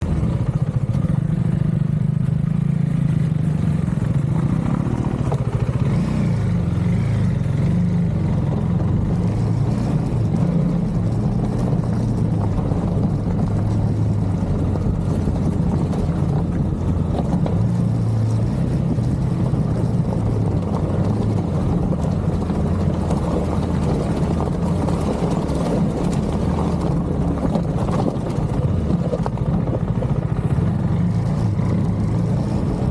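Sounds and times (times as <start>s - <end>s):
motorcycle engine at low revs: 0.0s - 32.9s.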